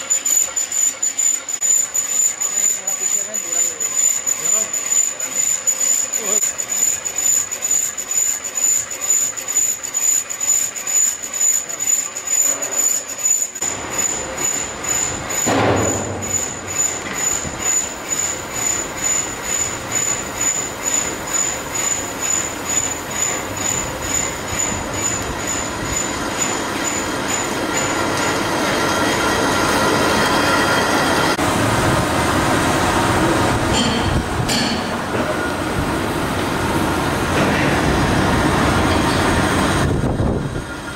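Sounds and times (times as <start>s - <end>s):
high steady whine: 0.0s - 40.9s
workshop machinery running: 0.0s - 40.9s.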